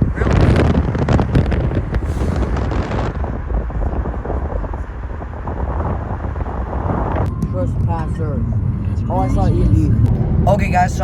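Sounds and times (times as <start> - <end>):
passing train rumble: 0.0 - 11.0
wind buffeting microphone: 0.0 - 11.0.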